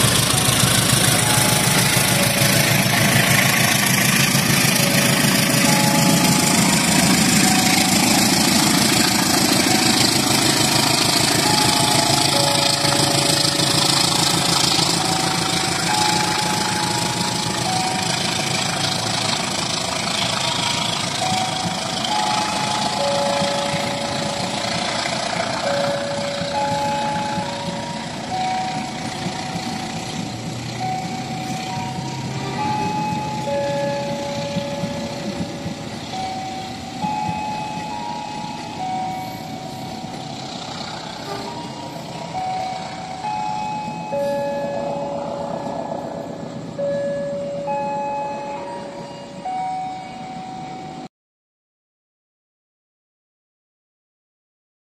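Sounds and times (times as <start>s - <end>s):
simple electronic melody: 0.0s - 51.1s
train running: 0.0s - 51.1s.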